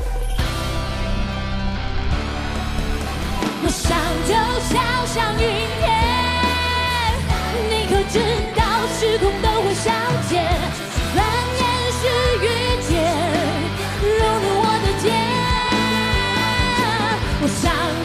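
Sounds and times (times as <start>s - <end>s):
rock band with drums and guitars: 0.0s - 18.0s
woman singing rock song: 3.4s - 18.0s.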